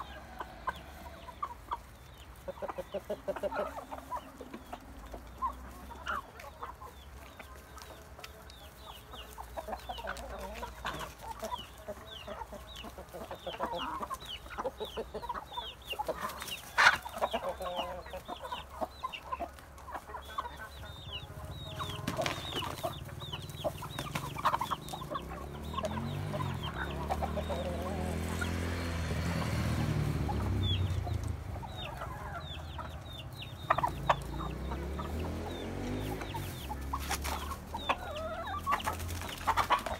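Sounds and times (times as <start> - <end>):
chickens clucking softly: 0.0 - 39.9.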